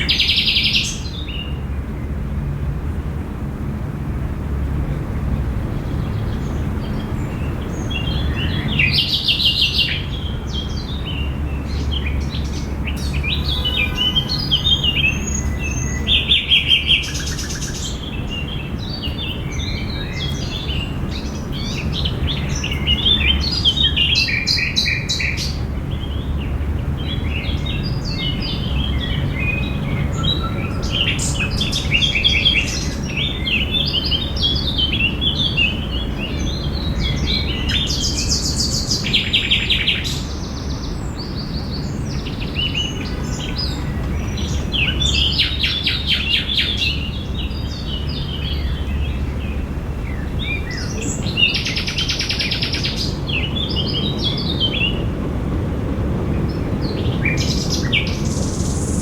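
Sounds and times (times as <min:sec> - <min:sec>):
low background rumble: 0:01.2 - 0:59.0
songbirds chirping and singing: 0:05.7 - 0:55.1.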